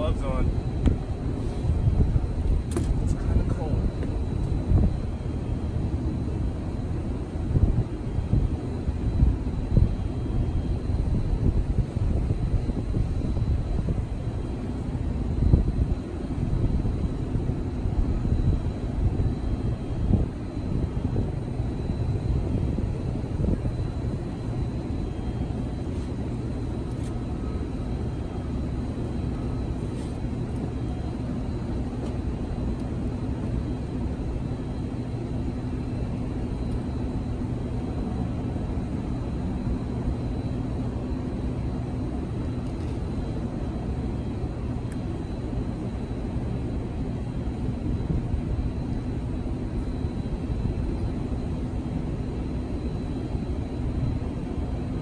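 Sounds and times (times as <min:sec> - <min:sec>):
faint constant hum: 0:00.0 - 0:55.0
low city rumble: 0:00.0 - 0:55.0.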